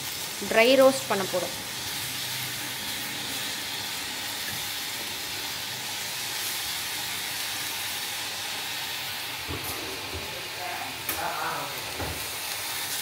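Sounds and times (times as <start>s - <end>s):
leaves hissing in hot pan: 0.0s - 13.0s.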